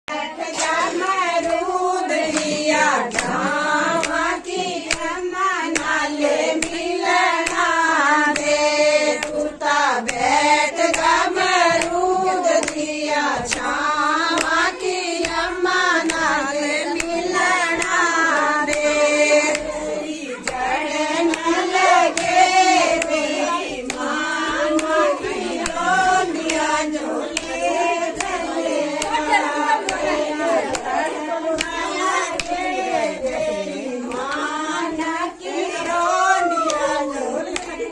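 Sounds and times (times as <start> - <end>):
group singing folk song: 0.1 - 37.9
rhythmic hand clapping: 0.1 - 37.9.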